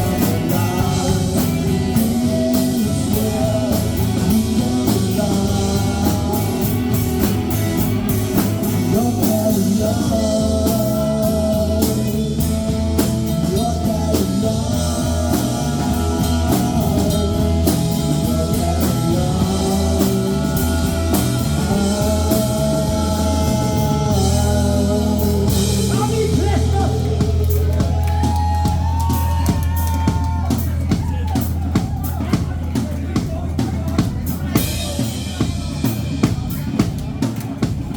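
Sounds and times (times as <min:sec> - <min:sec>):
person singing: 0:00.0 - 0:30.6
live rock band: 0:00.0 - 0:37.9.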